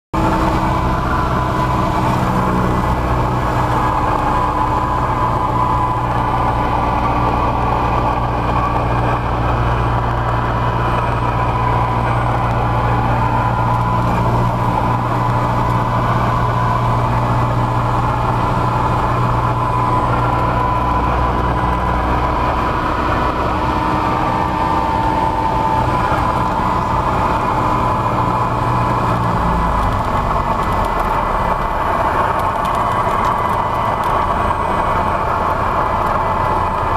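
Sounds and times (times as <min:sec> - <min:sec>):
propeller plane engine drone: 0:00.2 - 0:36.9.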